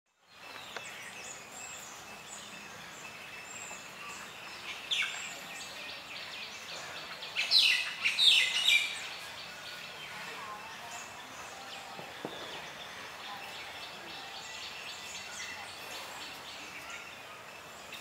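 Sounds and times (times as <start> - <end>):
outdoor background noise: 0.1 - 18.0
birds chirping and calling: 0.2 - 18.0.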